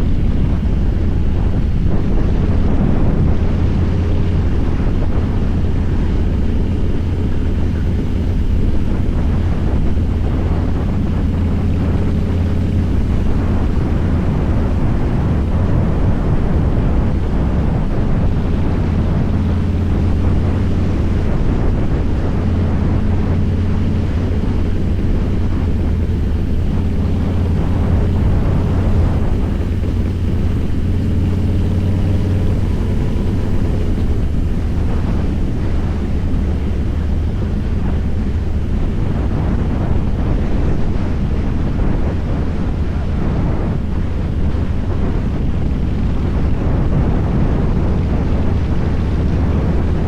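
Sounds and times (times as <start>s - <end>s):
motorcycle engine running: 0.0s - 50.0s
wind on microphone: 0.0s - 50.0s.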